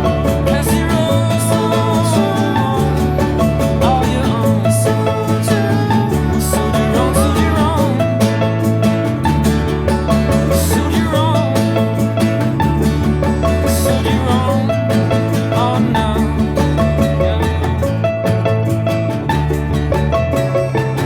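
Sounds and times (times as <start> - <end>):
live band playing pop-folk: 0.0 - 21.0.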